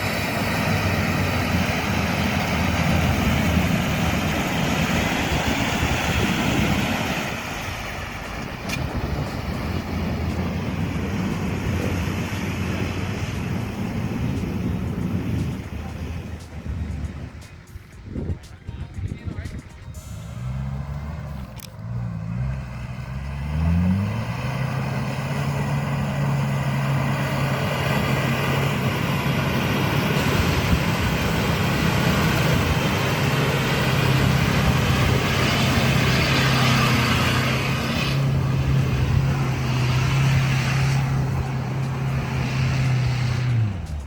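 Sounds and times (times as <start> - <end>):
dense rushing noise: 0.0 - 21.5, 22.7 - 44.0
off-road vehicle engine revving: 0.0 - 44.0.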